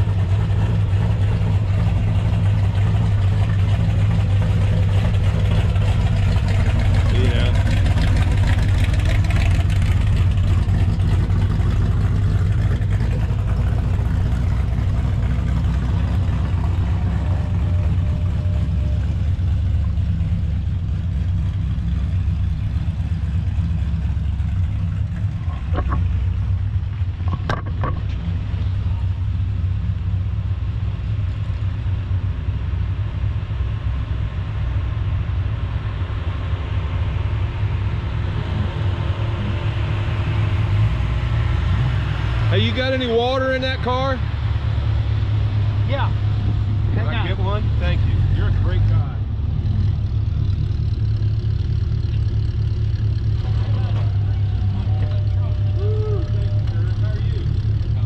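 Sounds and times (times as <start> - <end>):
car engines rumbling: 0.0 - 58.0.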